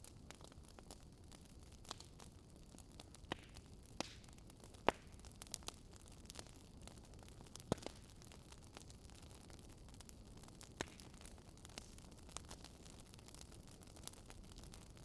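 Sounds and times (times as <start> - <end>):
low steady hiss: 0.0 - 15.0
wood fire crackling and popping: 0.0 - 15.0.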